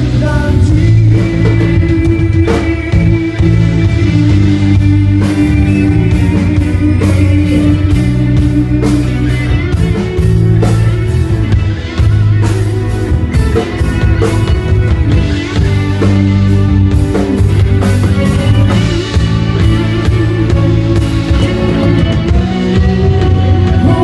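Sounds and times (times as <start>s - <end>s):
pop-rock band instrumental: 0.0s - 24.0s.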